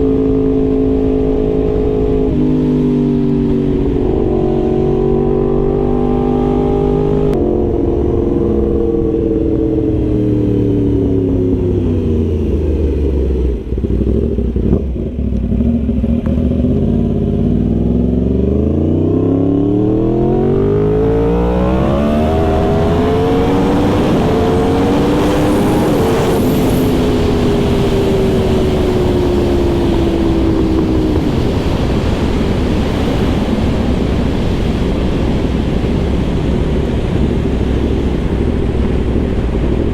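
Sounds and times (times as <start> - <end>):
wind rush: 0.0 - 15.2, 18.1 - 39.9
motorcycle engine revving: 0.0 - 39.9.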